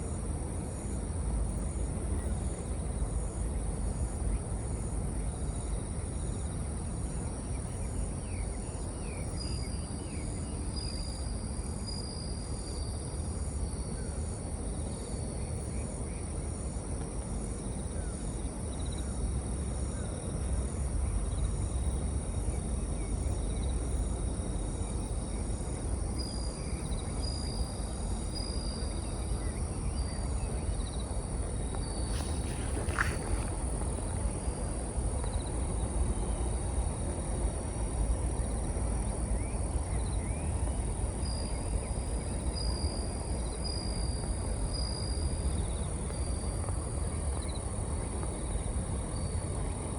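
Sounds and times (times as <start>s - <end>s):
crickets chirping: 0.0s - 49.9s
low rumble and hiss: 0.0s - 49.9s.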